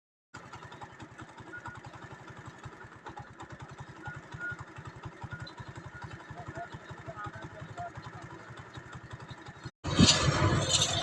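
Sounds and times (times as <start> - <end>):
small engine idling: 0.4 - 11.0.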